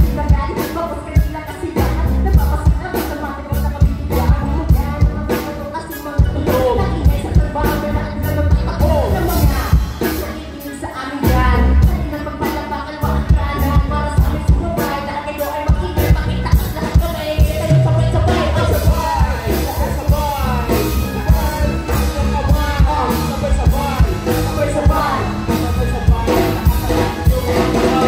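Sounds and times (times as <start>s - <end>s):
drums: 0.0s - 28.0s
electric guitar: 0.0s - 28.0s
person singing: 0.0s - 28.0s.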